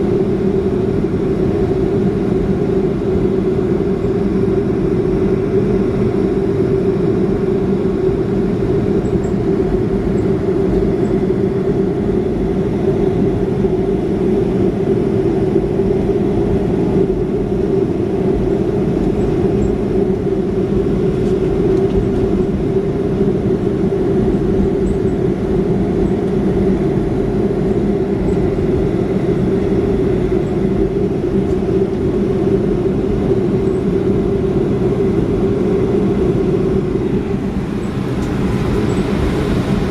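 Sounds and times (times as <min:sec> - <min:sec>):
jet engine drone in cabin: 0:00.0 - 0:39.9
low hum: 0:00.0 - 0:39.9.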